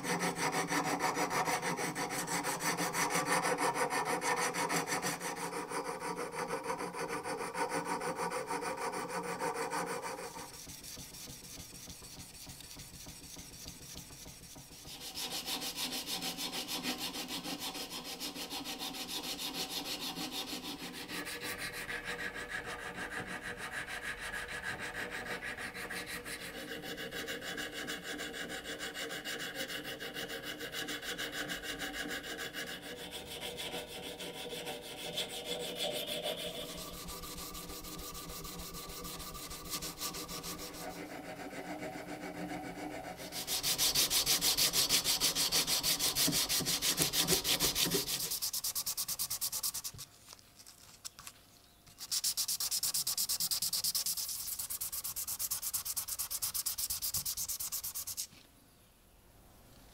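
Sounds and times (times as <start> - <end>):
file scraping steel blade: 0.0 - 50.0, 52.0 - 58.3.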